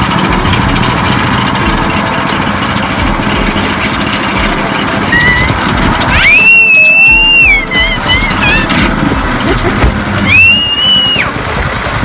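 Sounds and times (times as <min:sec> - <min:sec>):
loud engine idling: 0:00.0 - 0:12.0.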